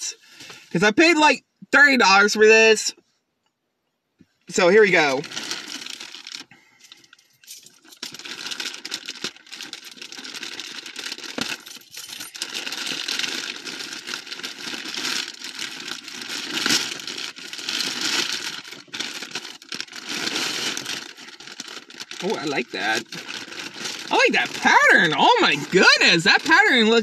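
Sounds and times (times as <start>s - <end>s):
packaging rustling and crinkling: 5.2s - 27.0s.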